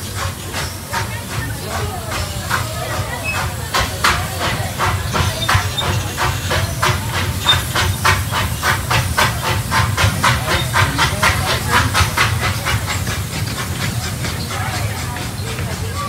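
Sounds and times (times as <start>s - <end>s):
low rumble of running train: 0.0s - 16.0s
steam locomotive chuffing: 0.0s - 16.0s.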